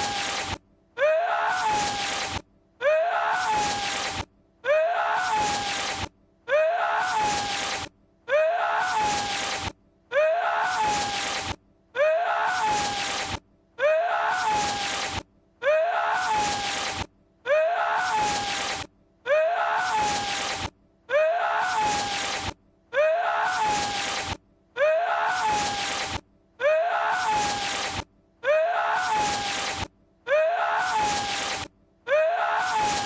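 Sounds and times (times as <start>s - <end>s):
strained vocal cry: 1.0s - 11.4s, 12.0s - 16.9s, 17.5s - 33.0s.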